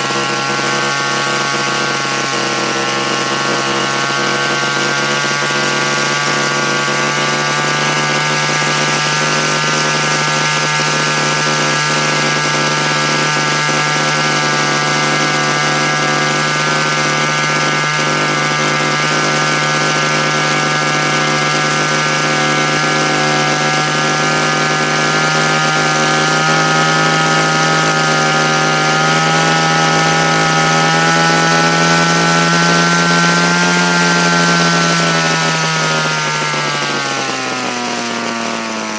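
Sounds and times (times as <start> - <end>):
model helicopter engine running: 0.0 - 38.9.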